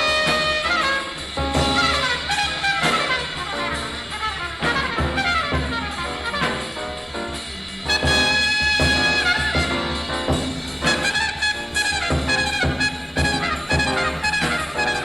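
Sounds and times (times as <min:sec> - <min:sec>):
bebop jazz combo: 0:00.0 - 0:15.0
trumpet and saxophone runs: 0:00.0 - 0:15.0.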